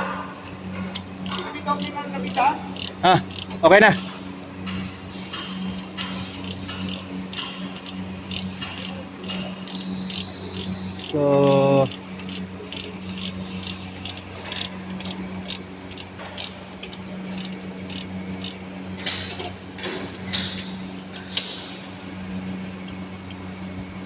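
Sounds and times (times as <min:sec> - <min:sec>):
steady low hum: 0:00.0 - 0:24.0
ratchet wrench clicking: 0:00.4 - 0:22.0, 0:22.8 - 0:23.8
metal clinks: 0:00.5 - 0:21.8.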